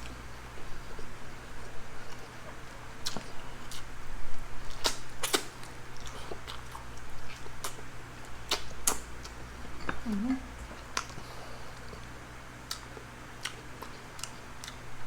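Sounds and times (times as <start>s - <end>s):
chewing with mouth smacks: 0.0s - 3.9s, 4.6s - 14.9s
steady low hum: 0.0s - 15.0s.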